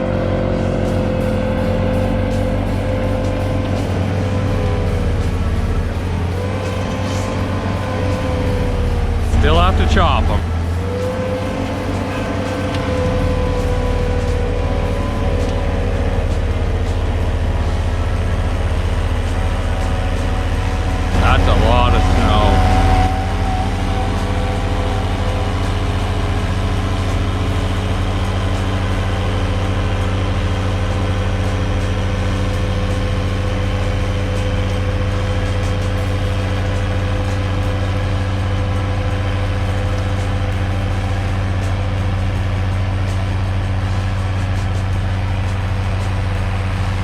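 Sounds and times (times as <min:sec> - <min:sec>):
engine idling: 0:00.0 - 0:47.0.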